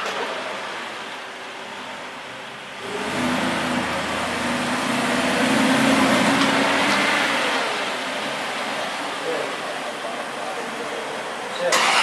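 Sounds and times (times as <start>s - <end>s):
car engine running in garage: 0.0s - 12.0s.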